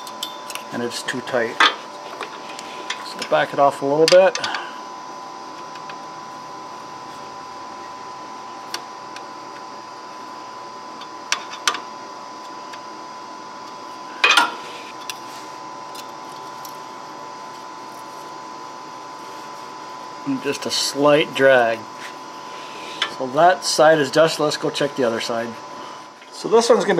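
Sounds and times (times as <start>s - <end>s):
background hum with faint whine: 0.0s - 26.9s.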